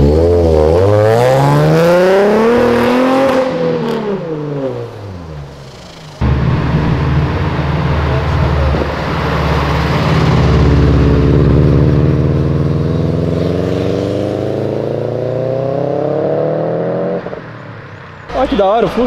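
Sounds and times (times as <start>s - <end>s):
car engine accelerating away: 0.0s - 17.9s.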